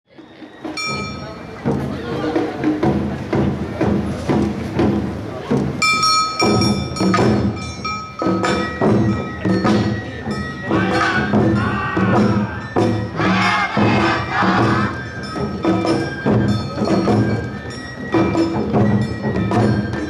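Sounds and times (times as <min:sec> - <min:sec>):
taiko drums beating: 0:00.2 - 0:20.0
bells ringing: 0:00.4 - 0:02.6, 0:05.8 - 0:20.0.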